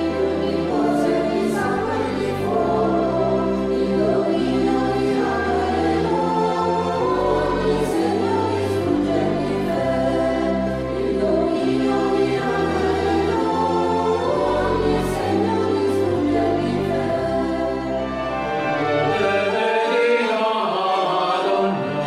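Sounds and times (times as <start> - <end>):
mixed choir singing: 0.0 - 22.0
orchestral accompaniment: 0.0 - 22.0.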